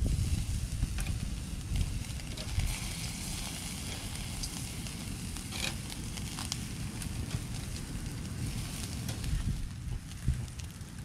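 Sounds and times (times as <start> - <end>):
meat sizzling on grill: 0.0 - 11.0
wind rumble on microphone: 0.0 - 11.0.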